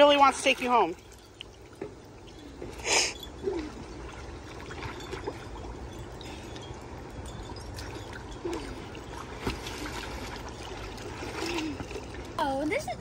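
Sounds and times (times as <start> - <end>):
small splashes: 0.0 - 12.6
pool water sloshing: 0.0 - 13.0.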